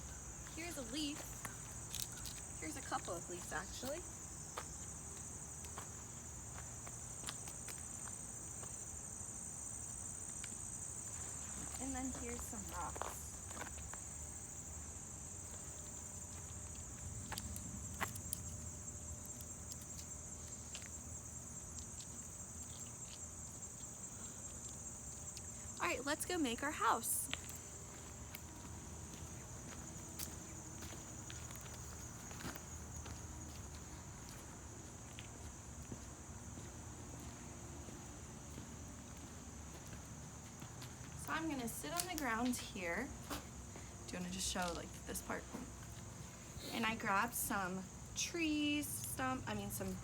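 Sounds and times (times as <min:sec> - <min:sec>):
insects trilling: 0:00.0 - 0:50.0
light footsteps on ground: 0:00.0 - 0:50.0.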